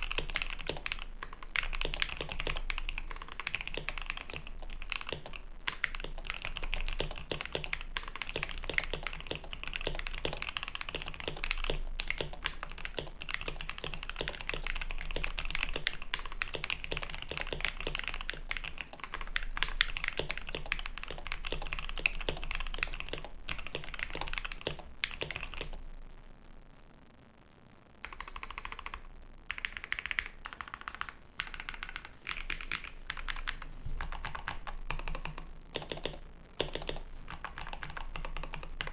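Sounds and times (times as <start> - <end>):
mechanical keyboard typing: 0.0 - 25.8, 28.0 - 38.9.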